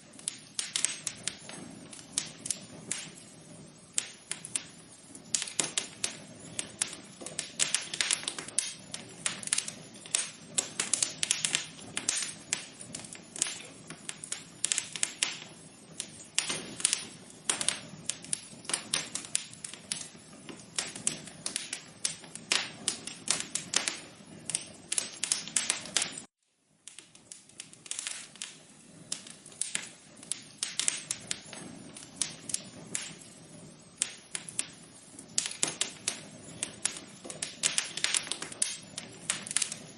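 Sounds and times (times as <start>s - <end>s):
low hiss: 0.0s - 39.9s
wood fire crackling: 0.0s - 39.9s.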